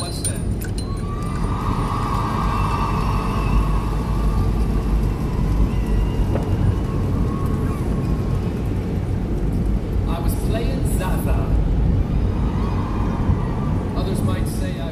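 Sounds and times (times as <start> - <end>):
car road and engine rumble: 0.0 - 14.9.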